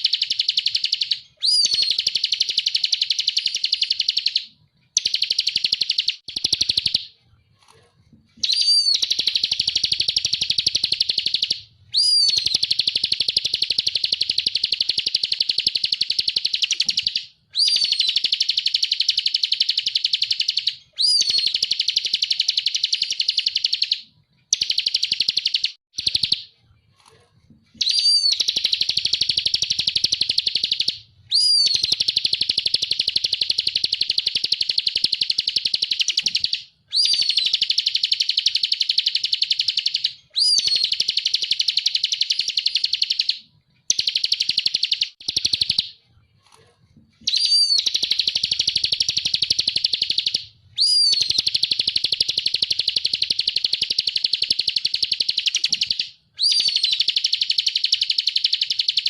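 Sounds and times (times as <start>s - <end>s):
bird singing rapid high trills: 0.0s - 7.1s, 8.4s - 26.4s, 27.8s - 45.8s, 47.3s - 59.0s.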